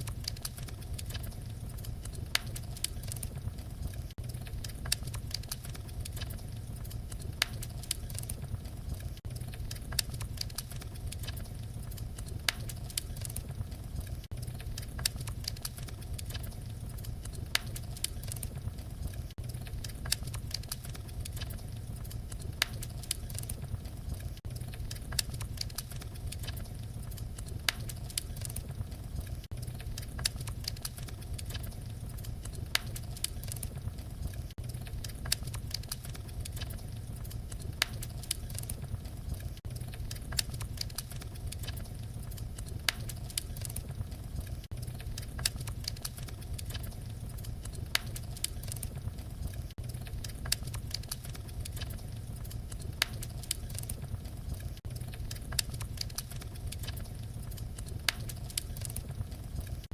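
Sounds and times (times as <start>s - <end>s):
low rumble of flame: 0.0s - 59.9s
wood fire crackling: 0.0s - 59.9s.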